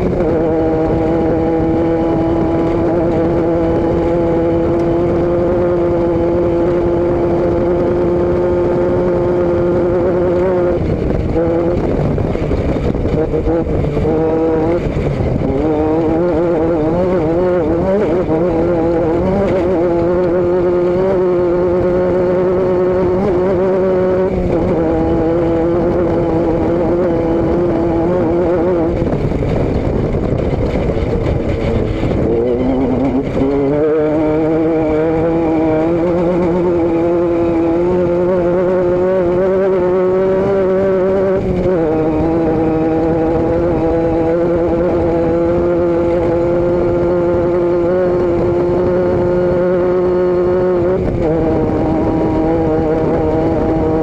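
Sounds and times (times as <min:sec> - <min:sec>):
vehicle engine and exhaust running: 0:00.0 - 0:54.0.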